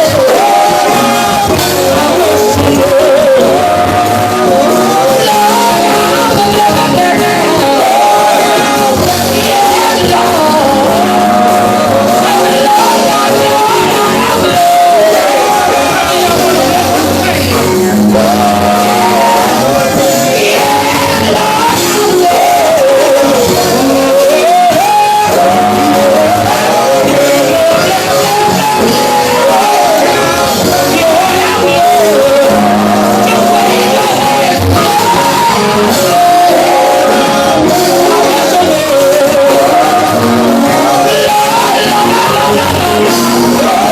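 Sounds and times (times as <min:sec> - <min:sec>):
gospel band playing: 0:00.0 - 0:43.9
lead singer singing: 0:00.0 - 0:43.9.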